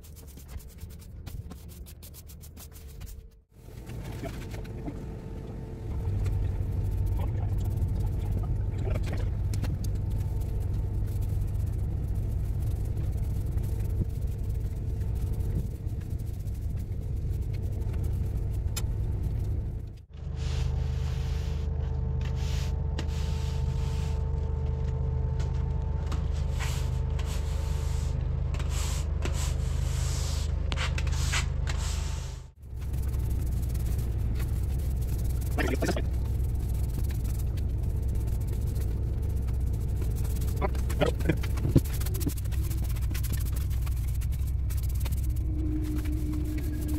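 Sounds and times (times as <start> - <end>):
constant hum: 0.0 - 46.9
mechanical engine rumble: 3.4 - 46.9.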